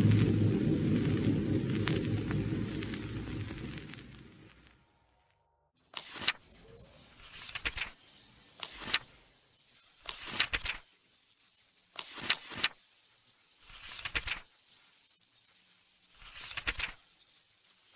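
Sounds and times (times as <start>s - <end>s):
crackling electric sparks: 0.0s - 17.9s.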